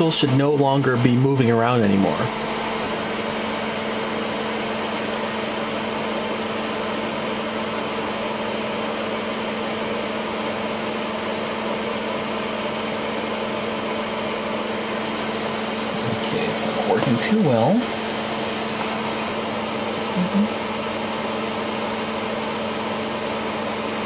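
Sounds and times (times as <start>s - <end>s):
fan humming: 0.0s - 24.0s.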